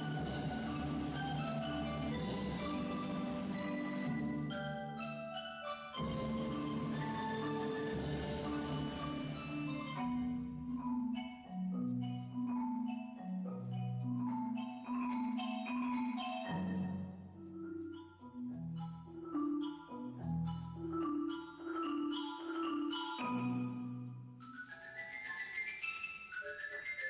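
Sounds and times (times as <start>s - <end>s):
marimbas playing a melody: 0.0s - 27.0s.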